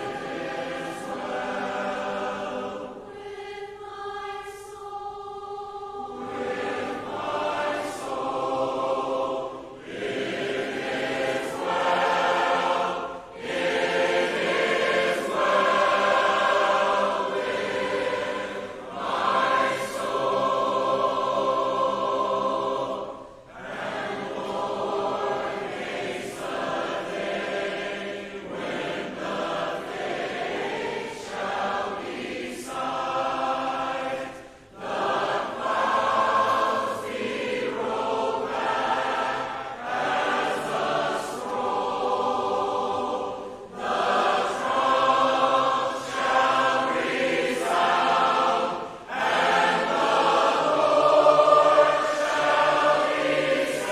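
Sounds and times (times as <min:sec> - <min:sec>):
congregation singing a hymn: 0:00.0 - 0:53.9.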